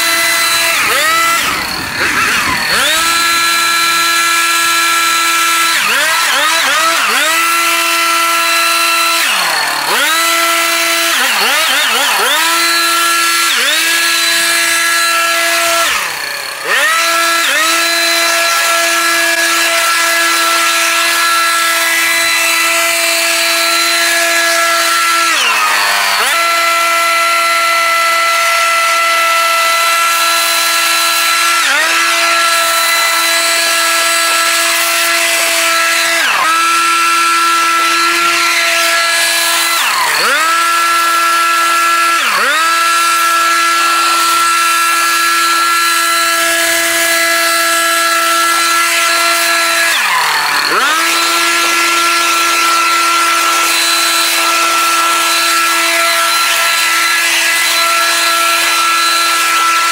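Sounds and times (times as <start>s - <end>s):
petrol engine cutting grass: 0.0s - 59.9s.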